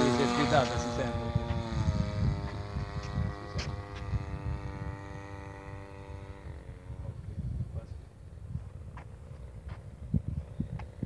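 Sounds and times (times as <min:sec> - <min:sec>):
model airplane engine droning: 0:00.0 - 0:11.0
wind on microphone: 0:00.0 - 0:11.0.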